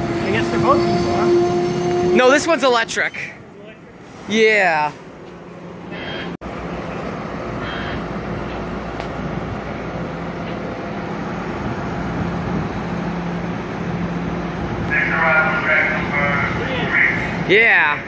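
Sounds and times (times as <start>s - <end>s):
diesel locomotive engine drone: 0.0s - 18.0s.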